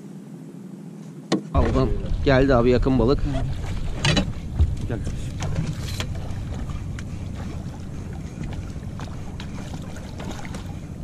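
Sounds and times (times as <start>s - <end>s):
wind and water rumble on microphone: 1.4s - 11.0s
faint water splashes: 1.6s - 11.0s.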